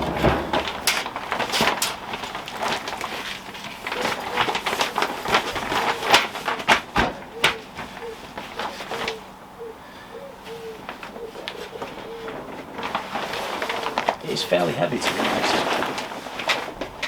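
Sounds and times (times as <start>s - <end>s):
fabric rustling: 0.0s - 9.3s, 10.9s - 17.0s.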